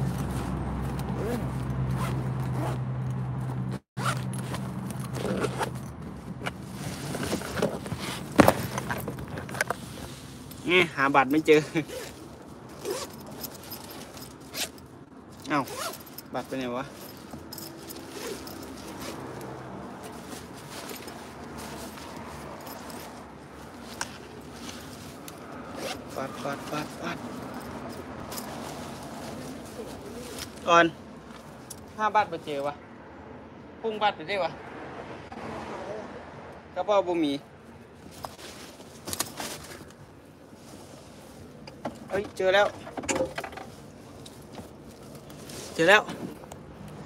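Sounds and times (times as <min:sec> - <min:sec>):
rustling of handled things: 0:00.0 - 0:32.7, 0:37.7 - 0:47.0.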